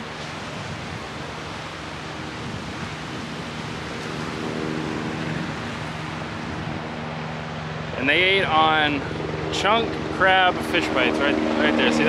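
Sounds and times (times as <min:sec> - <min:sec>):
low hum: 0:00.0 - 0:12.0
ocean surf washing onto beach: 0:00.0 - 0:12.0.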